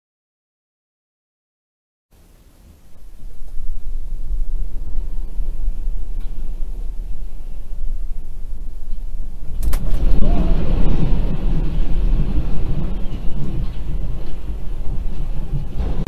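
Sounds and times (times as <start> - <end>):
deep earthquake rumbling: 2.6 - 16.0.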